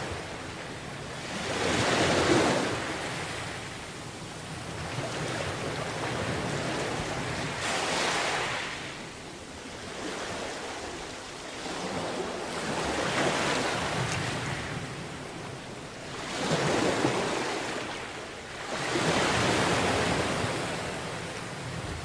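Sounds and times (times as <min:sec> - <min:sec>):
sea waves breaking on a beach: 0:00.0 - 0:22.0.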